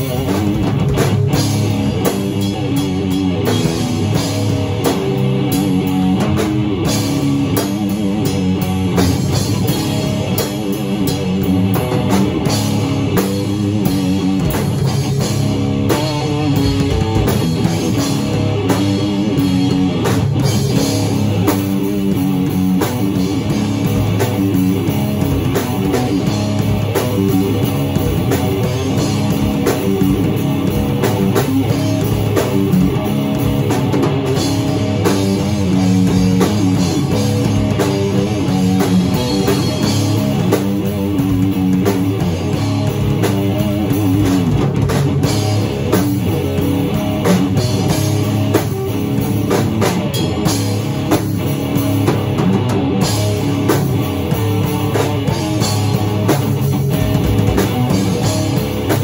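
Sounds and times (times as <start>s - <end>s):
drum kit: 0.0s - 59.0s
guitar riff: 0.0s - 59.0s
rock music: 0.0s - 59.0s.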